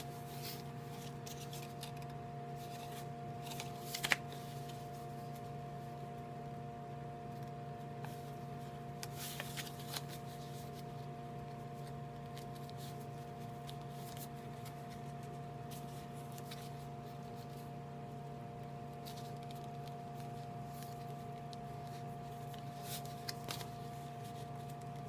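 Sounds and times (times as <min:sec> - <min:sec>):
paper crinkling as folded: 0:00.0 - 0:06.0, 0:07.2 - 0:25.0
steady background hum: 0:00.0 - 0:25.0.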